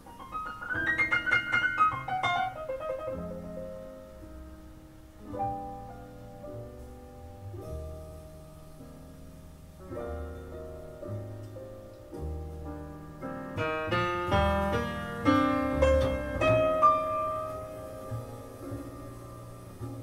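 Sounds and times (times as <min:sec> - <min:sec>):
jazz piano over speakers: 0:00.0 - 0:20.0.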